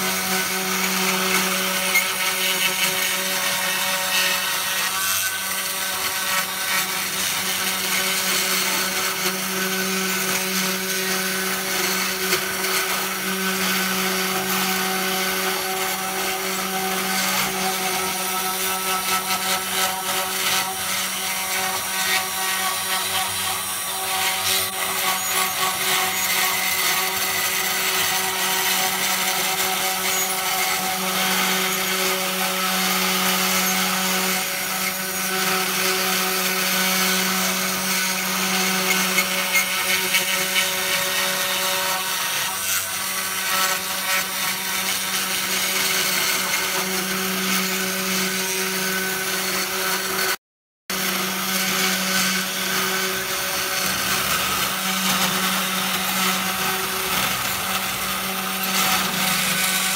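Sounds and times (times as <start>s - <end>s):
router motor hum: 0.0s - 59.9s.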